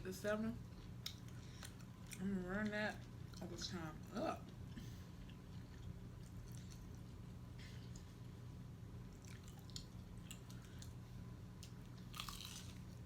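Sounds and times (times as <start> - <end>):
person chewing food: 0.7 - 3.4, 4.4 - 8.3, 9.0 - 13.0.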